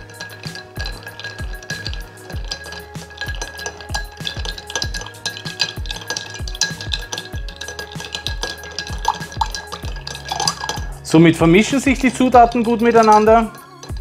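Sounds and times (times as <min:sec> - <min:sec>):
background music with steady beat: 0:00.0 - 0:14.0
ice cubes clinking in glass: 0:00.0 - 0:14.0.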